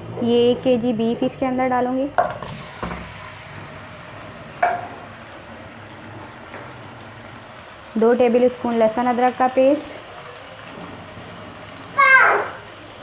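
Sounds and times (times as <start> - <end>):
meat sizzling in hot oil: 2.4 - 13.0.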